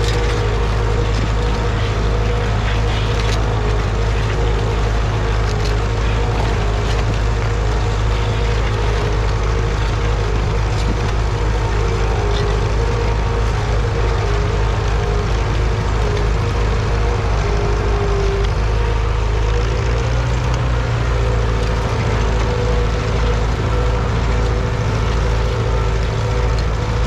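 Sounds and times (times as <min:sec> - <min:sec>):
motor droning: 0:00.0 - 0:27.0.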